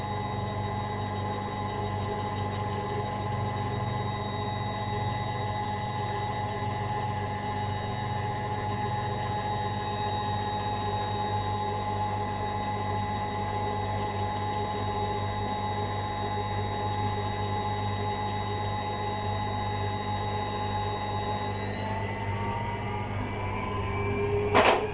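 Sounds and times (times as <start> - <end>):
washing machine spinning: 0.0 - 24.9.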